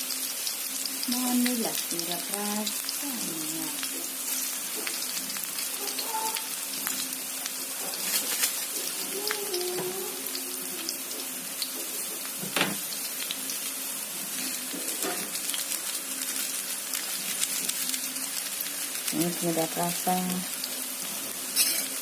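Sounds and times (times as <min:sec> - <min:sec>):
clams sizzling in a pan: 0:00.0 - 0:22.0.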